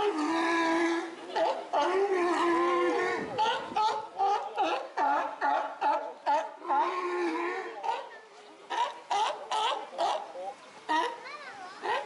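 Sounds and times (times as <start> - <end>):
sea lions barking: 0.0 - 12.0.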